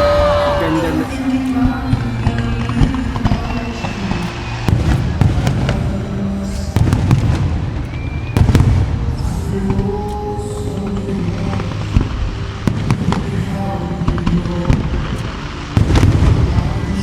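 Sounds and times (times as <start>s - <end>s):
fireworks booming: 0.0s - 17.0s
fireworks crackling: 0.0s - 17.0s
show music: 0.0s - 17.0s.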